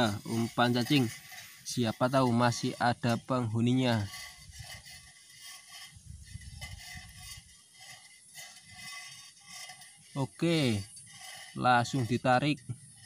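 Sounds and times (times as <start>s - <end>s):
wire fishing line rattling: 0.0s - 13.0s.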